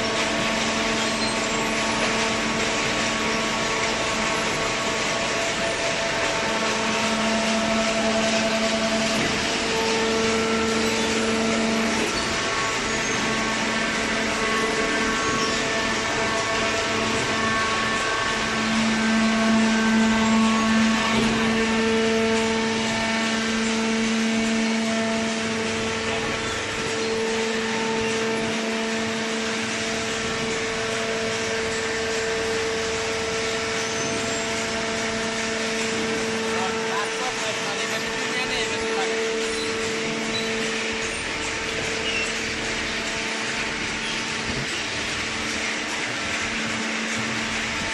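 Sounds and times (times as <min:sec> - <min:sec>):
industrial machinery whirring hum: 0:00.0 - 0:47.9.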